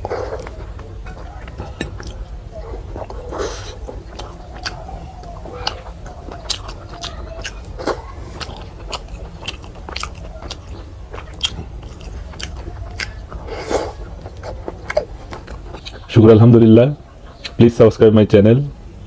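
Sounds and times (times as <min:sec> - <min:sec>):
person chewing food: 0:00.0 - 0:16.1, 0:17.3 - 0:17.6.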